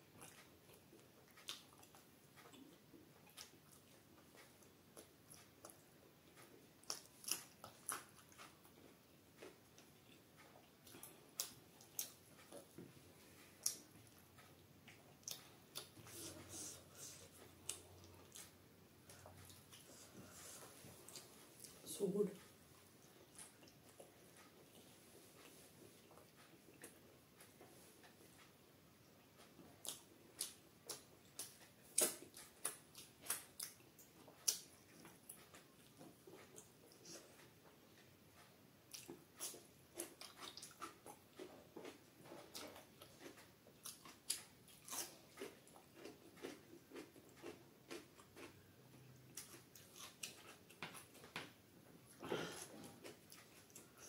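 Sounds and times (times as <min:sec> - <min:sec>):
chewing food: 0:00.0 - 0:54.0.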